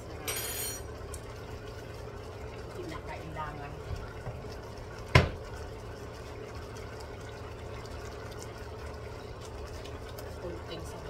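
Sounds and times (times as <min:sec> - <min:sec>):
broth simmering bubbling hiss: 0:00.8 - 0:11.0.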